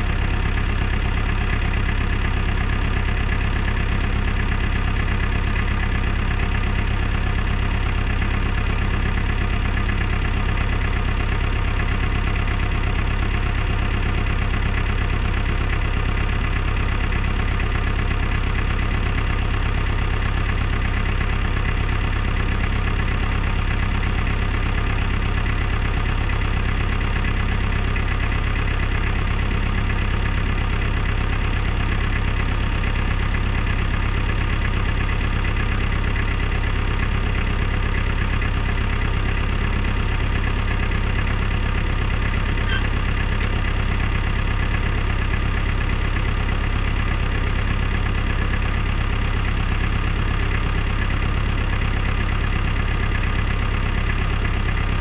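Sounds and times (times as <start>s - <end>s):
heavy machine engine idling: 0.0s - 55.0s.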